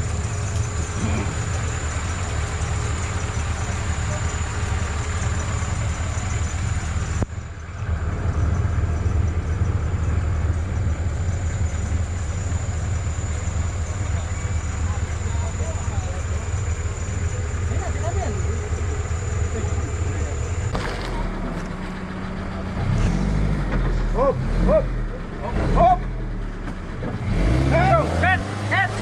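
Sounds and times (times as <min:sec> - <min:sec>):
off-road vehicle engine rumbling: 0:00.0 - 0:29.0
road and wind noise: 0:00.0 - 0:29.0.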